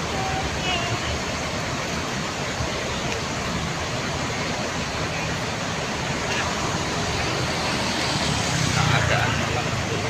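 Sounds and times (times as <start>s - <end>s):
busy bus terminal noise: 0.0s - 10.0s
diesel bus engines rumbling: 0.0s - 10.0s.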